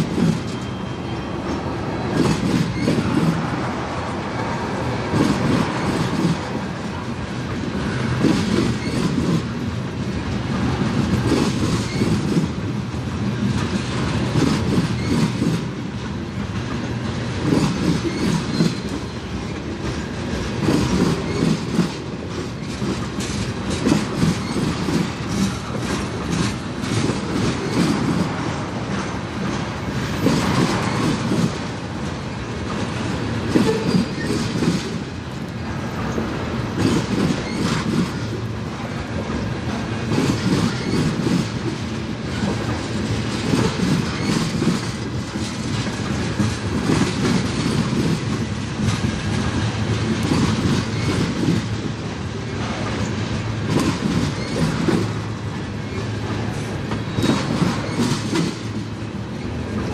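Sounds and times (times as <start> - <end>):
train wheels clicking over rail joints: 0.0 - 0.8, 1.4 - 59.9.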